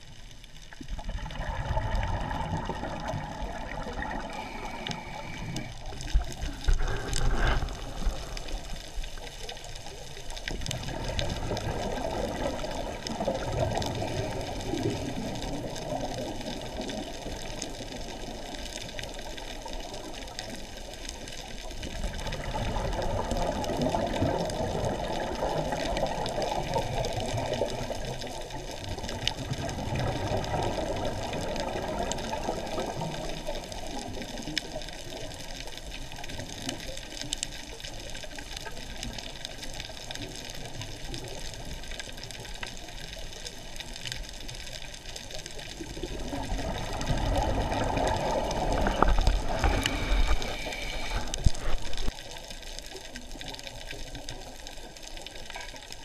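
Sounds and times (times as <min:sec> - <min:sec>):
rushing water-like noise: 0:00.0 - 0:56.0.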